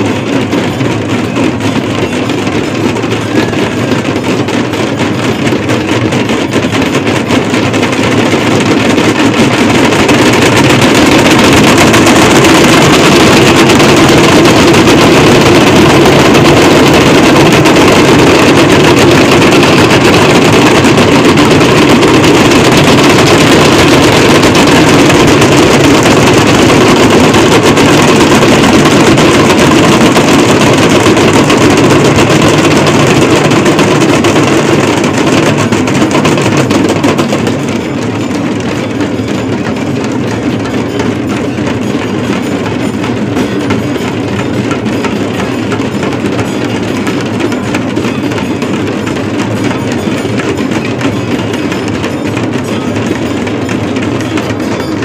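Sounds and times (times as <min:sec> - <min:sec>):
many drums beaten fast: 0:00.0 - 0:55.0.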